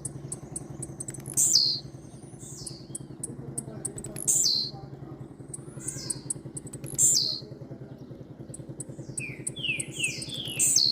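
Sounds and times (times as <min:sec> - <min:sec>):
low engine-like hum: 0:00.0 - 0:10.9.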